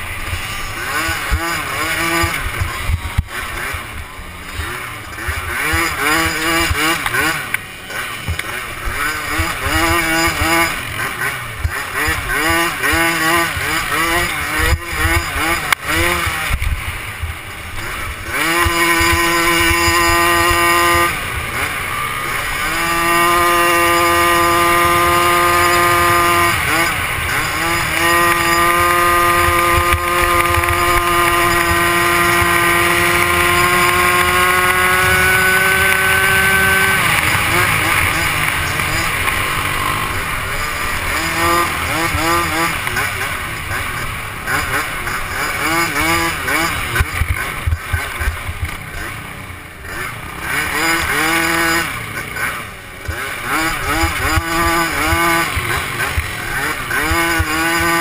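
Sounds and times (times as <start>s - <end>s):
small quad engine revving: 0.0s - 58.0s.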